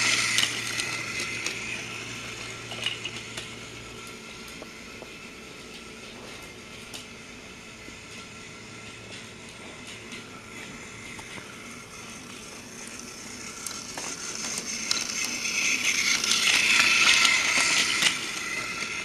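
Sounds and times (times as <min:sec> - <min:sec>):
toy train motor whirring: 0:00.0 - 0:19.0
toy wheels clicking on track: 0:00.0 - 0:19.0.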